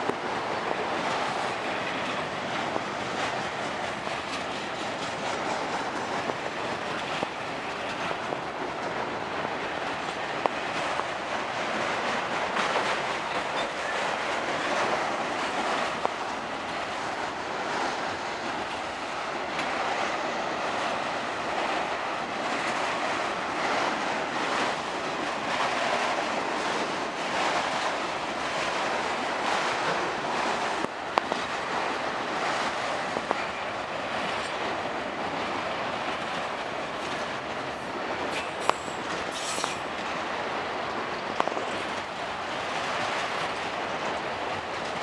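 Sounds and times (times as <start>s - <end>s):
freight train rolling past: 0.0s - 45.0s.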